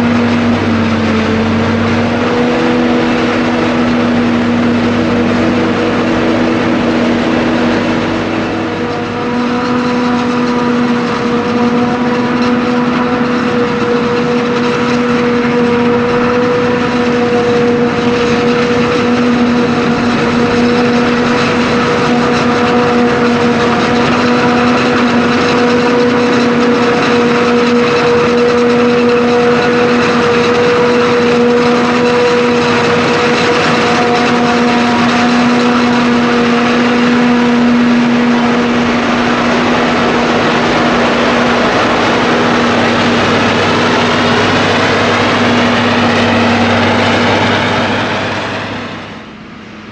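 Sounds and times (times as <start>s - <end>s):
harvesting machinery hum: 0.0s - 49.9s
pitched machine whine: 0.0s - 49.9s.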